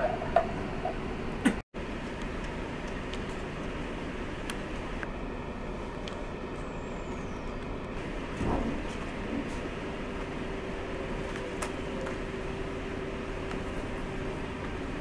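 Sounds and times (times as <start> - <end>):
steady hum: 0.0 - 15.0
train rumbling and rattling: 0.0 - 15.0.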